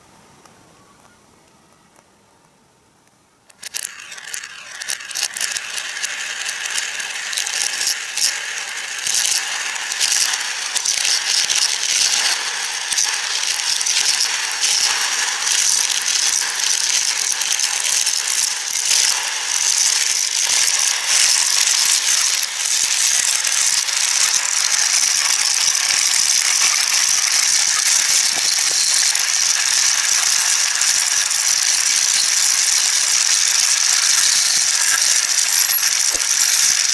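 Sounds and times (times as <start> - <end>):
marbles rattling along a track: 3.5 - 36.9.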